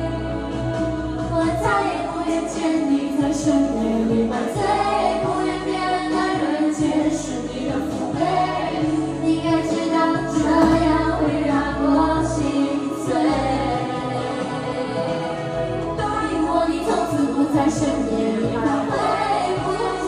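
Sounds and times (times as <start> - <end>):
song with sung vocals: 0.0 - 20.0.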